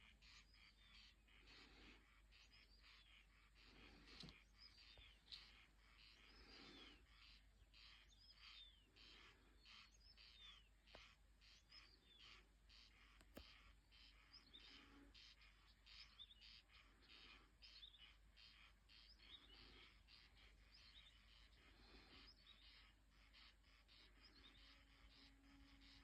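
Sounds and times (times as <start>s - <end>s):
chorus of birds calling: 0.0s - 26.0s.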